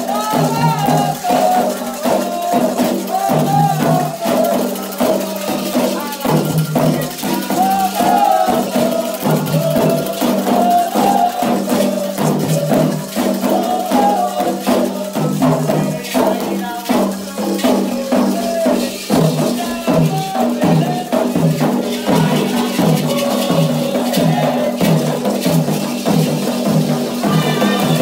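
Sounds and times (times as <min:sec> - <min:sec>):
person chanting: 0:00.0 - 0:26.1, 0:27.1 - 0:28.0
hand percussion: 0:00.0 - 0:28.0
shaken rattles: 0:00.0 - 0:28.0.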